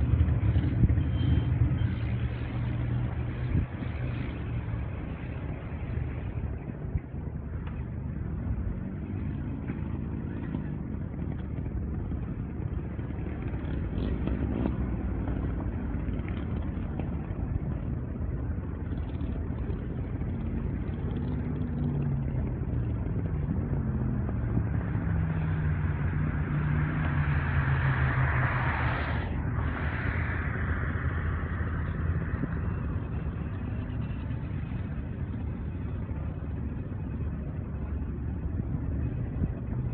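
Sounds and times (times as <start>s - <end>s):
engine running with low rumble: 0.0s - 39.9s.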